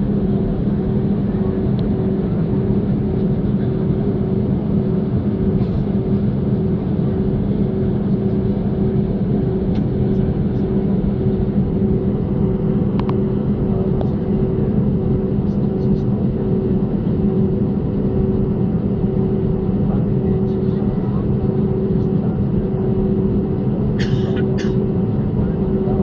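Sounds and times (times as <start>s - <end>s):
jet engines droning in cabin: 0.0s - 26.0s.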